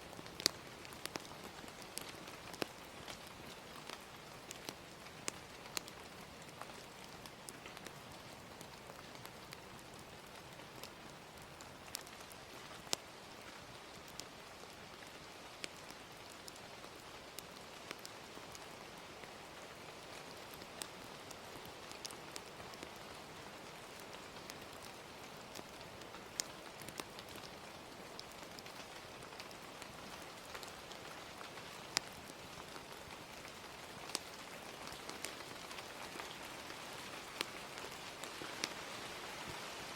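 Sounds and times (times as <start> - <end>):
gentle rain falling: 0.0 - 39.9
fire popping and crackling: 0.1 - 39.9.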